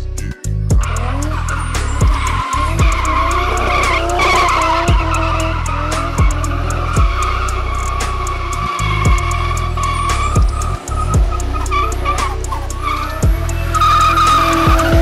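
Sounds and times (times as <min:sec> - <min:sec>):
hip-hop music with heavy bass: 0:00.0 - 0:15.0
car engine revving: 0:00.6 - 0:15.0
tyres squealing: 0:00.7 - 0:15.0.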